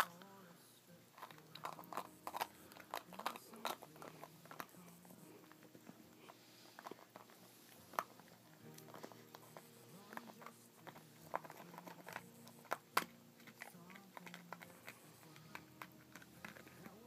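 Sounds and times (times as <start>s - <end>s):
dog chewing hard plastic: 1.2s - 17.0s.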